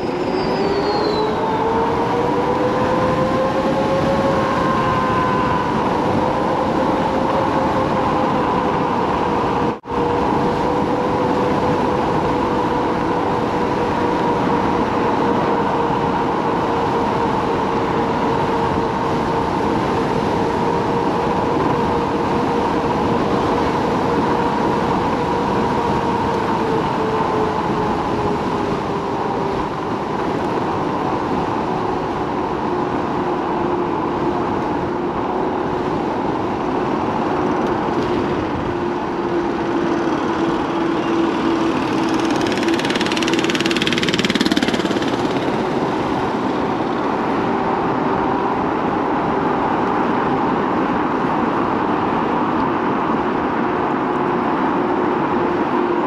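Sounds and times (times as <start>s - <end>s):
electric scooter motor whining: 0.0s - 56.0s
road noise: 0.0s - 56.0s
wind: 0.0s - 56.0s.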